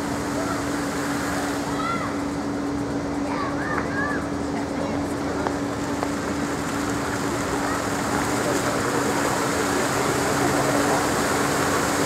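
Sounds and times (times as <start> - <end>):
fountain water jets splashing: 0.0 - 12.0
steady low hum: 0.0 - 12.0.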